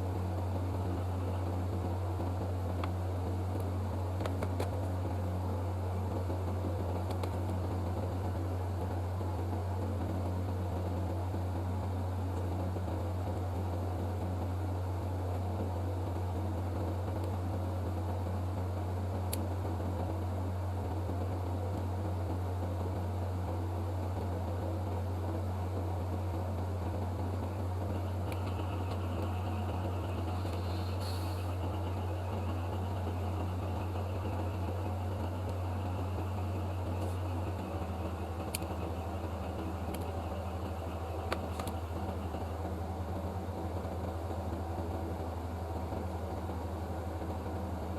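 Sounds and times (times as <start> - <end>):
faint high whine: 0.0 - 47.9
low hum with fan whir: 0.0 - 47.9.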